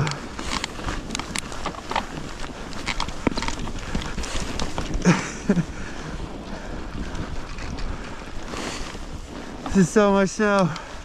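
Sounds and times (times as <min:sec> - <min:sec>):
bike ploughing through snow: 0:00.0 - 0:11.0
wind noise on microphone: 0:00.0 - 0:11.0.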